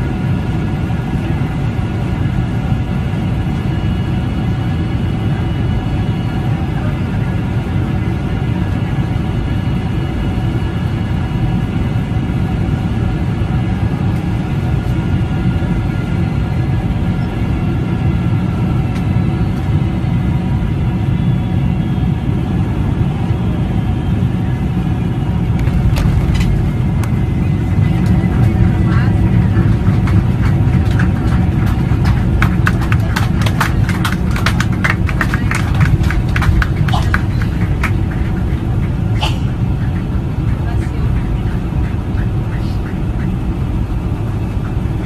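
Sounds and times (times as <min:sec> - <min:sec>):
jet engines low rumble: 0:00.0 - 0:45.0.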